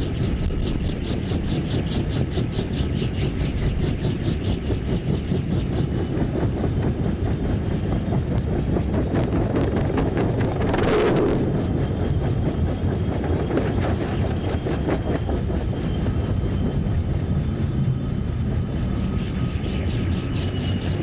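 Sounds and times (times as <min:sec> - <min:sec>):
helicopter engine and rotor: 0:00.0 - 0:21.0
wind buffeting microphone: 0:00.0 - 0:21.0.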